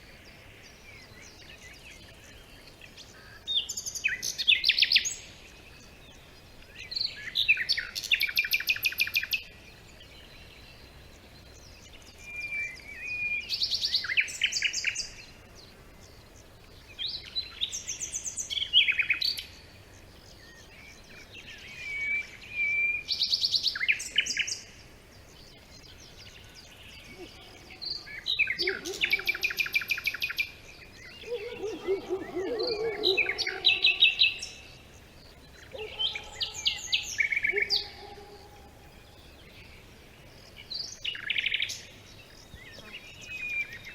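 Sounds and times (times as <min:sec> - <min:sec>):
songbirds trilling: 0:00.0 - 0:43.9.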